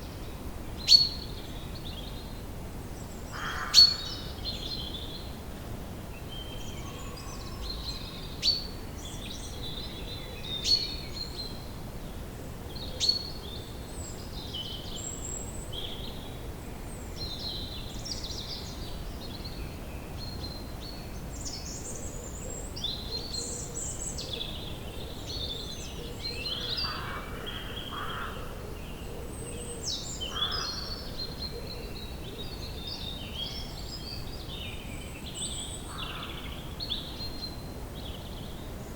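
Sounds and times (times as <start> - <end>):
low background noise: 0.0 - 38.9.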